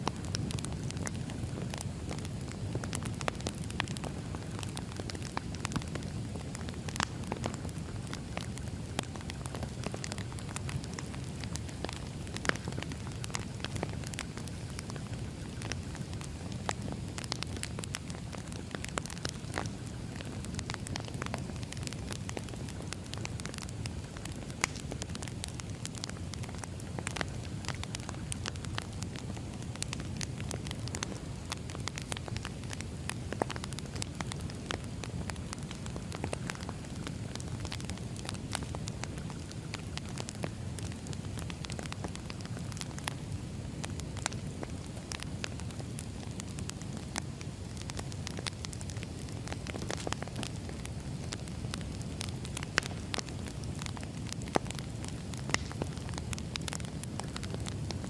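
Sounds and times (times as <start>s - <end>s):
firewood crackling and popping: 0.0s - 58.0s
low rush of flames: 0.0s - 58.0s.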